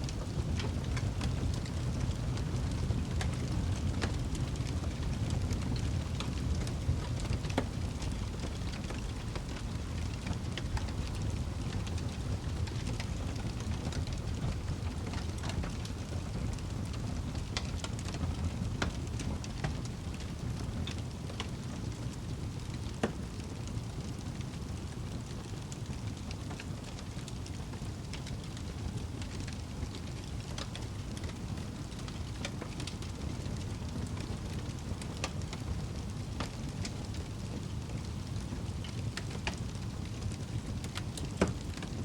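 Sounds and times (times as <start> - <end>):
fire crackles and pops: 0.0 - 42.0
low rumble of flames: 0.0 - 42.0.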